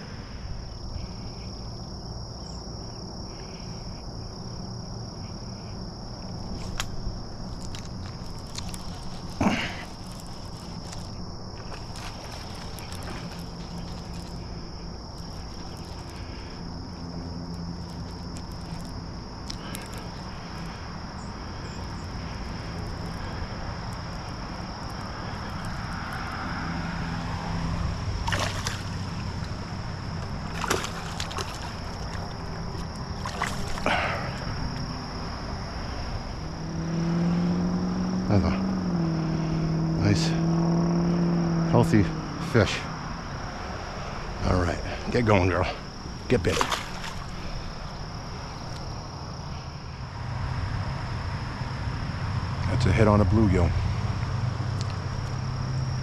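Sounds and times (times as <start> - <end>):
constant high-pitched buzz: 0.0 - 56.0.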